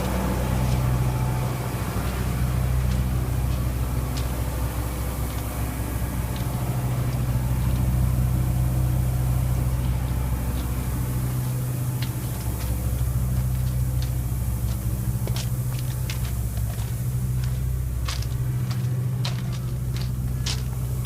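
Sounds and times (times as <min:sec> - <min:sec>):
air conditioner unit humming: 0:00.0 - 0:21.0.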